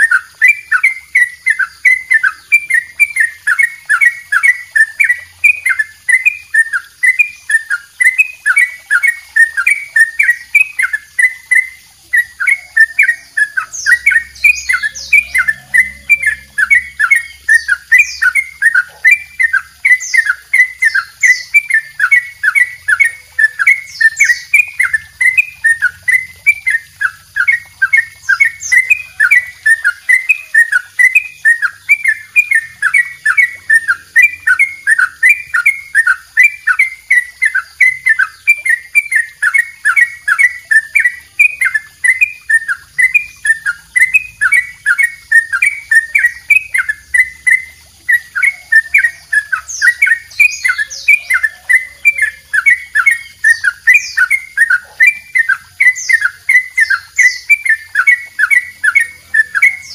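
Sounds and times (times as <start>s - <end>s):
bird singing rapid repeated notes: 0.0s - 59.9s.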